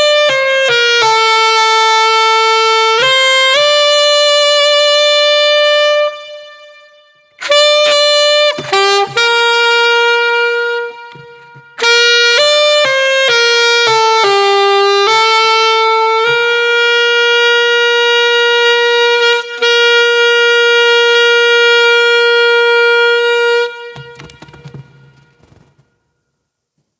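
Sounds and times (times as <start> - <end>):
alto saxophone solo: 0.0 - 25.8.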